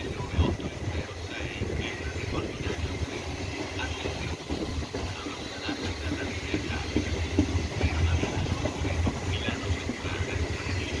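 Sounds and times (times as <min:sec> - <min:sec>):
low train rumble: 0:00.0 - 0:11.0
train wheels clicking over rails: 0:00.0 - 0:11.0.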